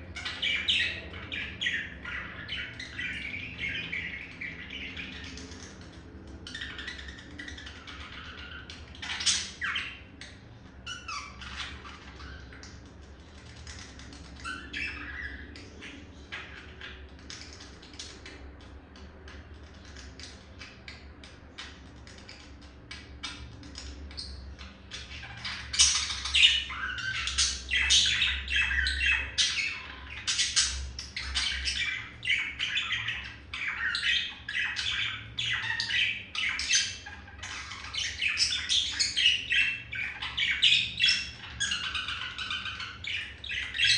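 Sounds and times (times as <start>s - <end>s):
budgerigar warbling and chirping: 0.0s - 18.7s, 19.7s - 43.9s.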